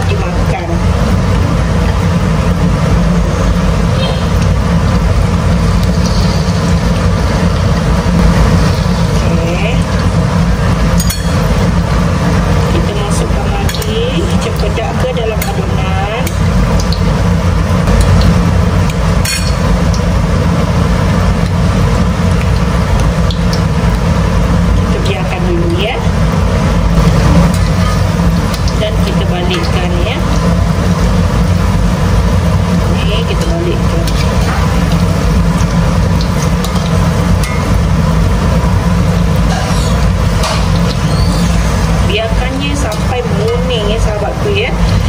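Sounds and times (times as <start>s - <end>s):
food deep-frying in hot oil: 0.0s - 45.0s
low rumble: 0.0s - 45.0s.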